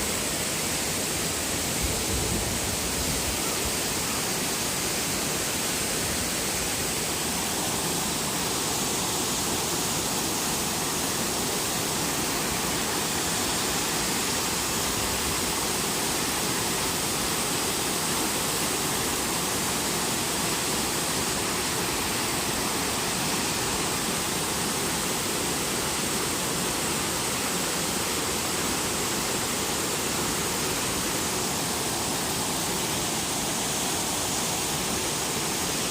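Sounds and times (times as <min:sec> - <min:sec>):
waterfall roaring: 0:00.0 - 0:35.9.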